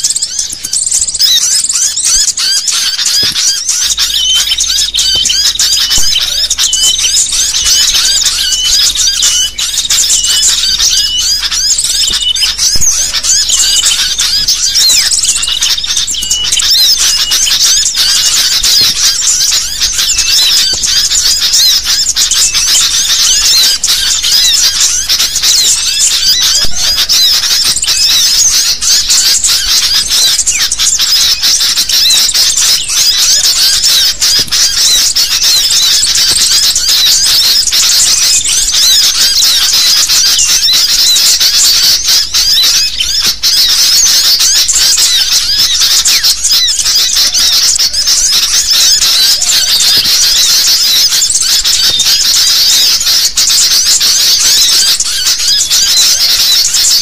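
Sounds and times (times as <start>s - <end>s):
bulbuls chirping in chorus: 0.0s - 57.0s.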